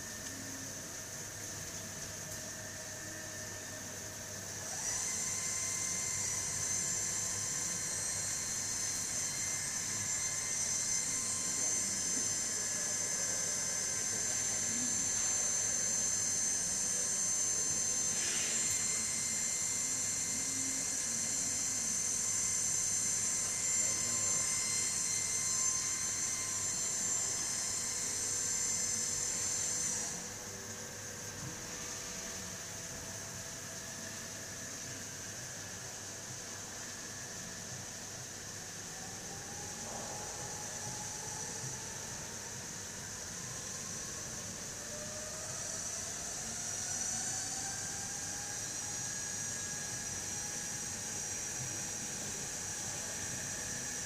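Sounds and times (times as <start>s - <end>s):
lathe high-pitched whine: 0.0s - 54.0s.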